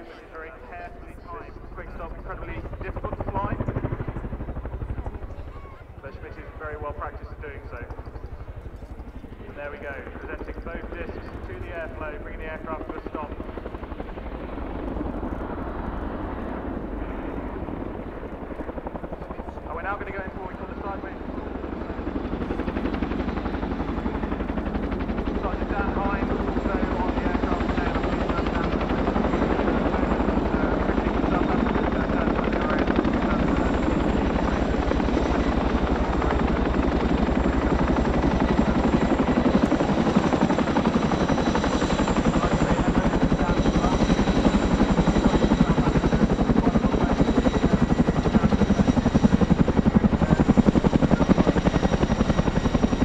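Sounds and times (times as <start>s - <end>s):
helicopter rotors beating: 0.0s - 53.0s
high turbine engine whine: 0.0s - 53.0s.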